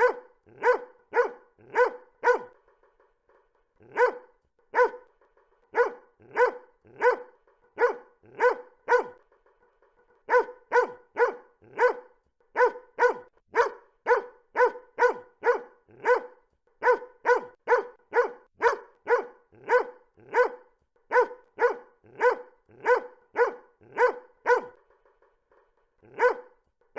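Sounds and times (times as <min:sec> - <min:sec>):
dog barking: 0:00.0 - 0:02.6, 0:03.8 - 0:09.2, 0:10.3 - 0:24.9, 0:26.0 - 0:26.6.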